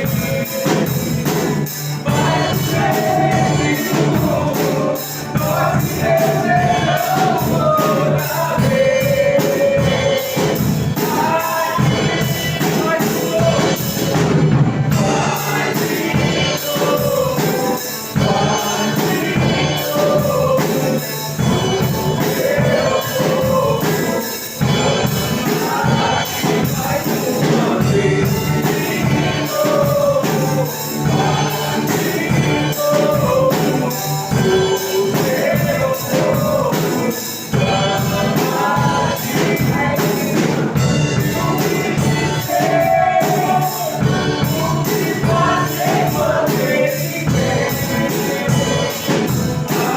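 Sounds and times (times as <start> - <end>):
church band playing: 0.0 - 49.9
percussion beat: 0.0 - 49.9
voices singing gospel: 0.0 - 49.9.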